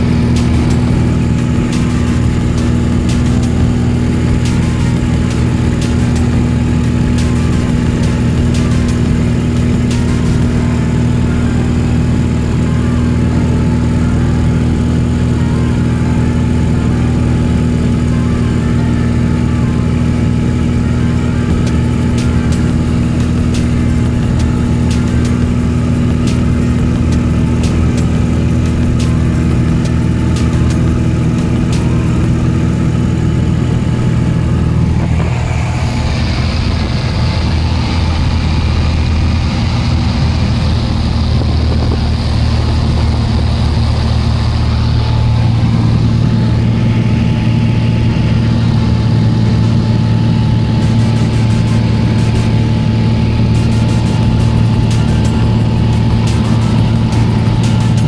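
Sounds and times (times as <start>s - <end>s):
propeller engine droning: 0.0s - 58.0s.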